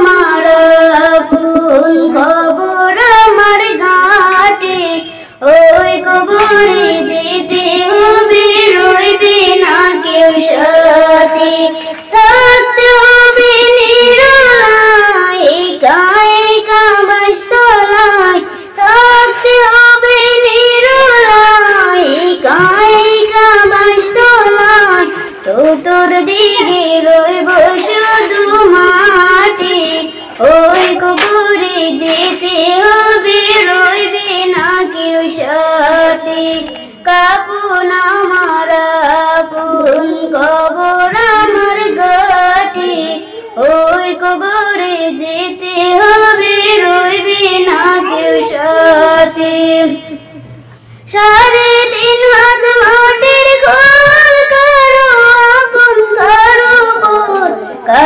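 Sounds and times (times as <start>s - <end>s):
woman singing into microphone: 0.0s - 58.0s.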